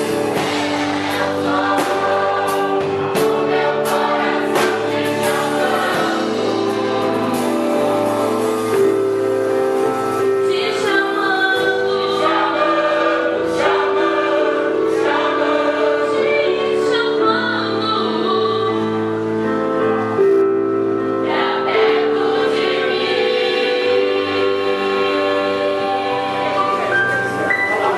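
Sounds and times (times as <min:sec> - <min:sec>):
group singing gospel in harmony: 0:00.0 - 0:18.8, 0:21.1 - 0:27.4.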